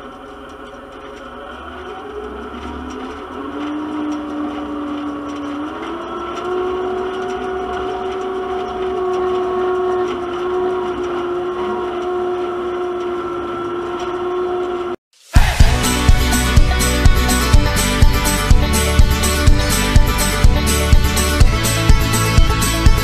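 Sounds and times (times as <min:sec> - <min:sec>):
tractor and baler mechanical whine: 0:00.0 - 0:23.0.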